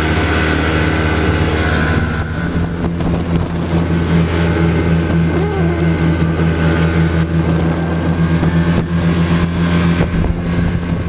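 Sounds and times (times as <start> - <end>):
snowmobile engine drone: 0.0 - 11.0.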